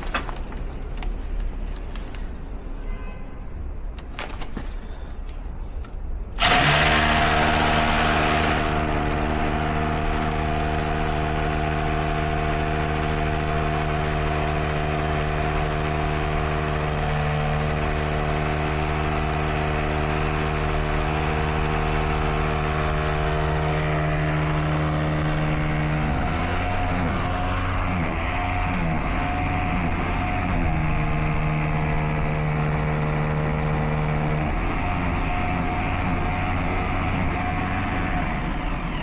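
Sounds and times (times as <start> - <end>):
power tool motor running: 6.4 - 38.2.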